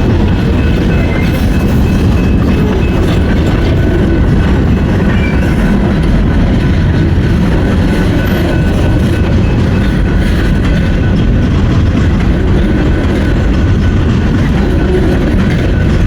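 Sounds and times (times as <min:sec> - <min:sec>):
freight train cars rolling on rails: 0:00.0 - 0:16.0.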